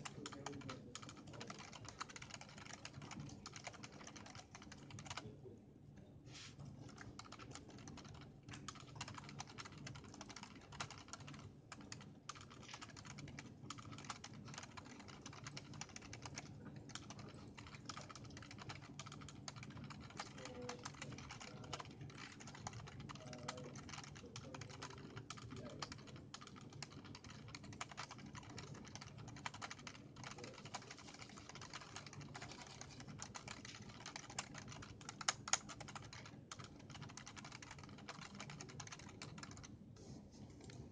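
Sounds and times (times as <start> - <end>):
keyboard typing clicks: 6.8 - 39.7.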